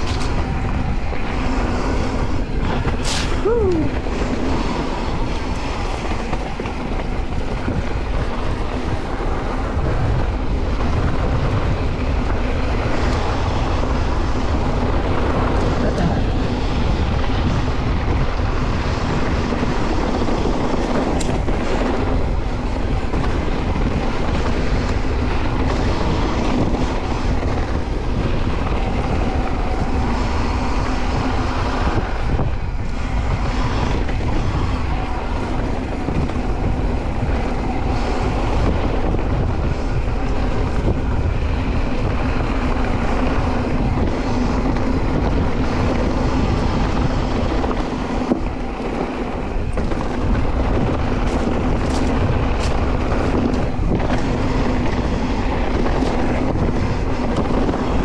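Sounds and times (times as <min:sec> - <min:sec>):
mountain bike tyre noise: 0:00.0 - 0:58.0
wind on microphone: 0:00.0 - 0:58.0.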